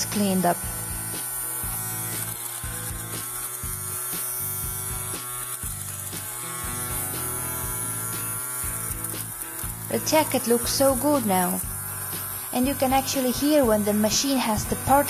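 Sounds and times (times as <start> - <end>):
electric lint remover buzzing: 0.0 - 15.0.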